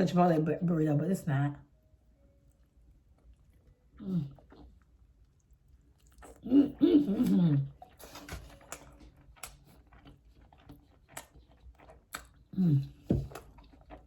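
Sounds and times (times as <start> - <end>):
person chewing: 2.5 - 14.0.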